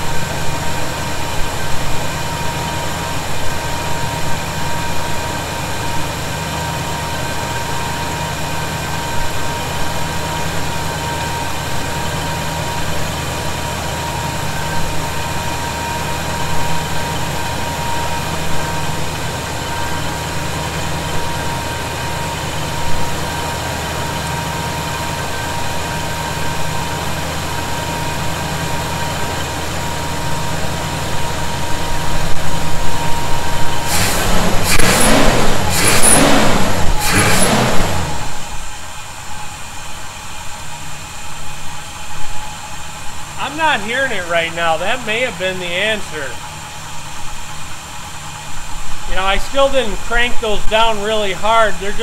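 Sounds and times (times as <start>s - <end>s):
engine rushing surges: 0.0s - 39.4s, 43.2s - 47.4s, 48.0s - 52.0s
pickup engine idling: 0.0s - 52.0s.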